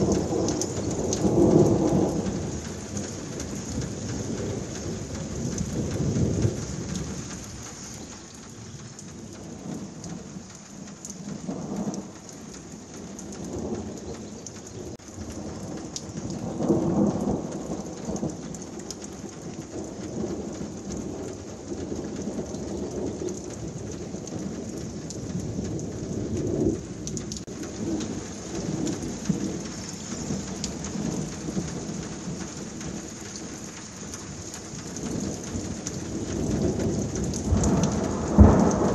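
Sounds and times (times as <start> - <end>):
heavy rain downpour: 0.0 - 38.9
thunder rumbling: 0.0 - 38.9.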